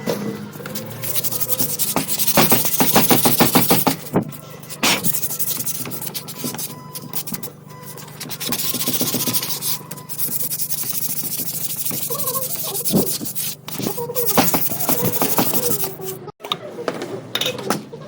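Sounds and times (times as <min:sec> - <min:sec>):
hand sanding strokes: 0:00.7 - 0:16.2.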